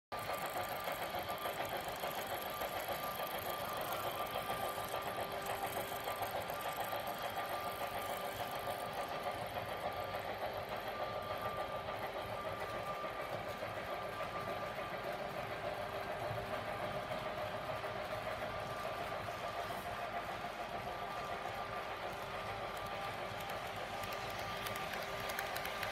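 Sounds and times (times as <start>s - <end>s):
model train whirring: 0.2s - 25.9s.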